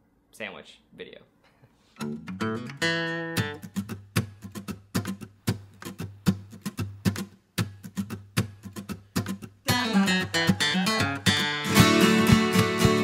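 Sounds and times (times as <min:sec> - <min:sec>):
acoustic guitar music: 0:01.8 - 0:13.0.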